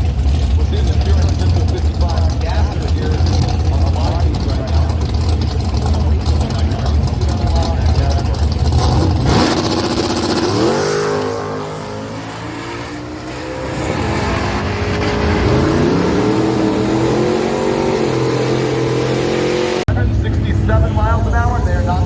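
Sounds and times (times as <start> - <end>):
race car engine at full throttle: 0.0 - 22.0.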